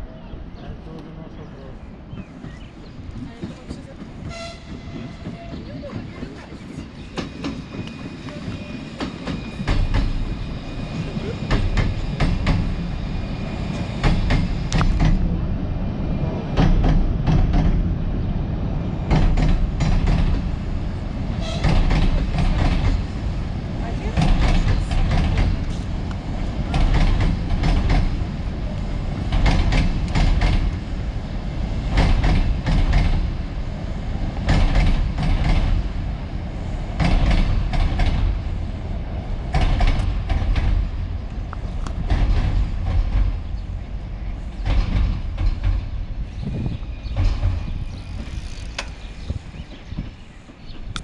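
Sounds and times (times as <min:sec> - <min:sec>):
low rumble of train wheels on rail: 0:00.0 - 0:51.0
clacks over rail joints: 0:00.9 - 0:10.4, 0:13.7 - 0:15.3, 0:16.5 - 0:17.9, 0:19.0 - 0:33.7, 0:34.3 - 0:36.0, 0:36.9 - 0:38.4, 0:39.4 - 0:51.0.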